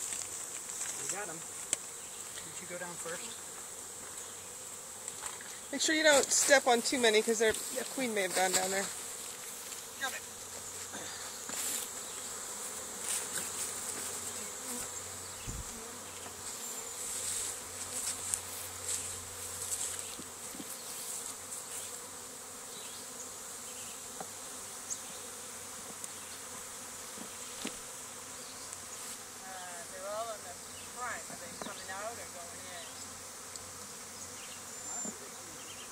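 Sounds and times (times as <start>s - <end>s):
bee swarm buzzing: 0.0s - 35.9s.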